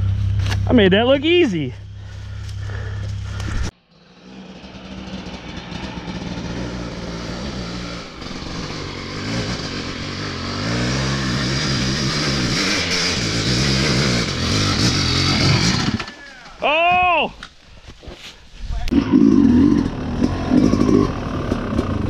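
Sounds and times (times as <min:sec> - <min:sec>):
dirt bike engine revving: 0:00.0 - 0:16.2, 0:18.9 - 0:22.0.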